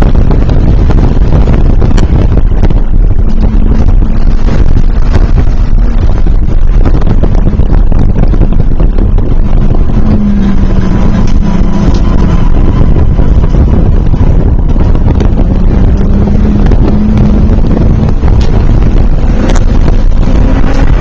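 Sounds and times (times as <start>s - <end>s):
race car engine: 0.0s - 21.0s
wind noise: 0.0s - 21.0s.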